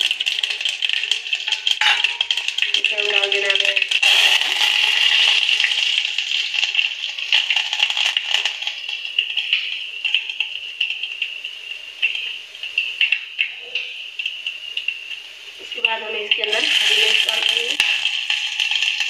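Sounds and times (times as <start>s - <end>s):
seeds crackling in hot oil: 0.0s - 19.0s.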